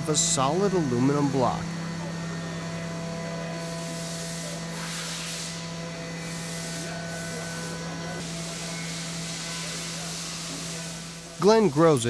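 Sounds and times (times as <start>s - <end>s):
coolant jets hissing: 0.0s - 12.0s
milling machine hum: 0.0s - 12.0s.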